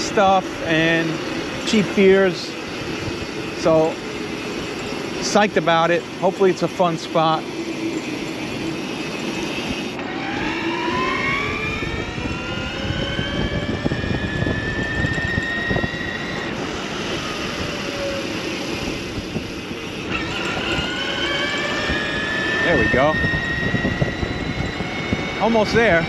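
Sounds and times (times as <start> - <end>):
electric motor whining: 0.0 - 26.0
wind and road noise: 0.0 - 26.0.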